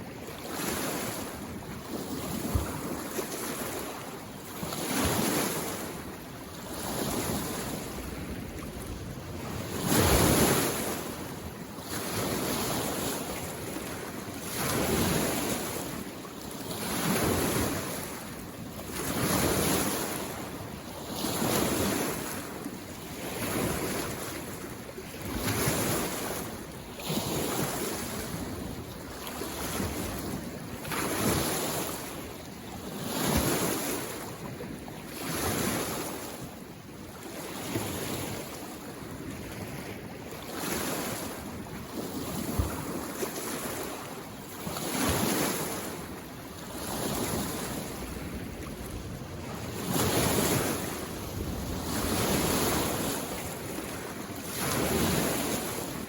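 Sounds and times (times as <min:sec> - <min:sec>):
waves washing on shore: 0:00.0 - 0:56.0.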